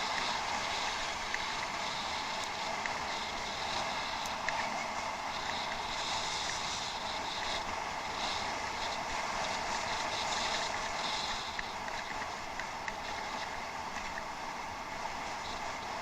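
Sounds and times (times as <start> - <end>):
faint light ticks: 0.0 - 14.3
bicycle tyres rolling: 0.0 - 16.0
wind over camera: 0.0 - 16.0.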